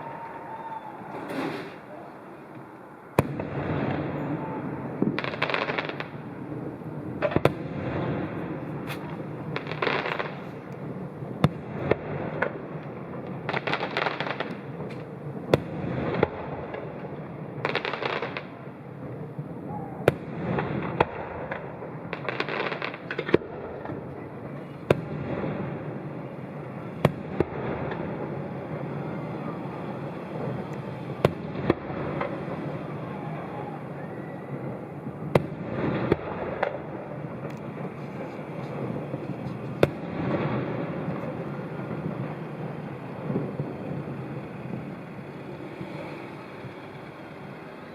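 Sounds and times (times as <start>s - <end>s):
fireworks hissing: 0.0s - 21.0s, 24.0s - 47.9s
firework shells bursting: 7.2s - 18.6s, 20.0s - 47.9s.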